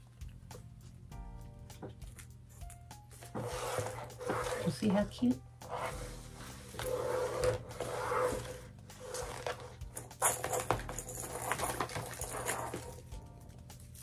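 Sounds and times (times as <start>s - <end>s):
ribbon rustling: 2.0s - 5.0s, 5.7s - 14.0s.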